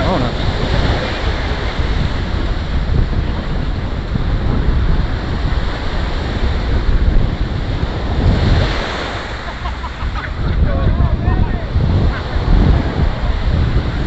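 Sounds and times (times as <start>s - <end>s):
ocean surf washing on beach: 0.0s - 14.0s
wind buffeting microphone: 0.0s - 14.0s.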